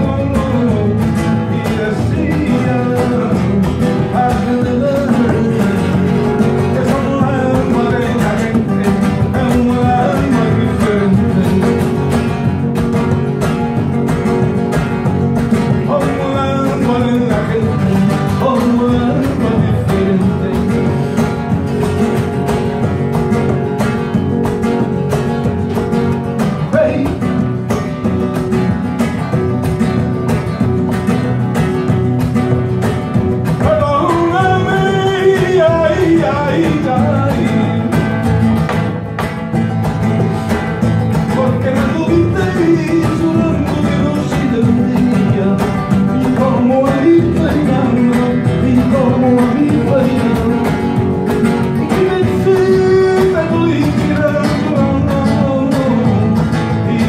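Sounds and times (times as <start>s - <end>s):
man singing: 0.0s - 29.6s, 32.3s - 39.0s, 39.8s - 57.0s
acoustic guitars strumming: 0.0s - 57.0s.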